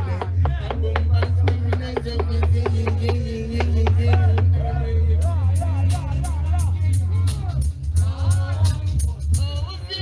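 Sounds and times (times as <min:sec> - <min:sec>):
dancehall music over sound system: 0:00.0 - 0:10.0.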